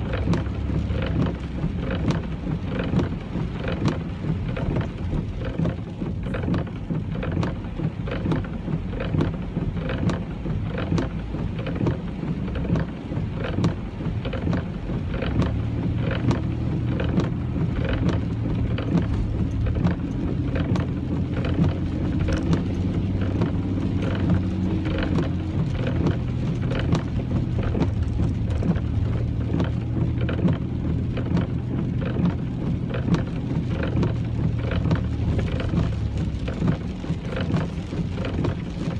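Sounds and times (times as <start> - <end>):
car hum: 0.0 - 38.9
engine and road rumble: 0.0 - 38.9
rain pattering on car: 0.0 - 38.9.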